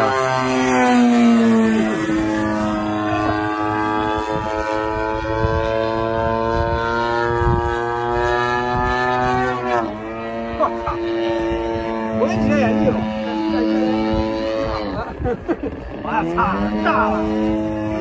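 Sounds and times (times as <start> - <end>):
model plane engine droning: 0.0 - 18.0.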